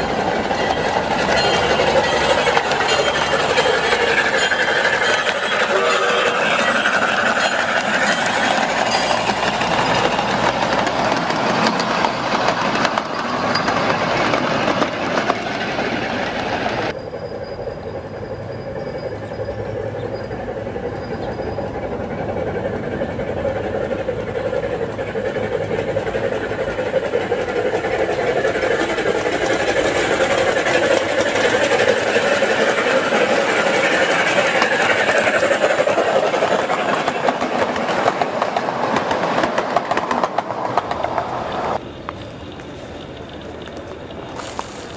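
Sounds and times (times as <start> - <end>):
miniature train running on track: 0.0 - 44.9.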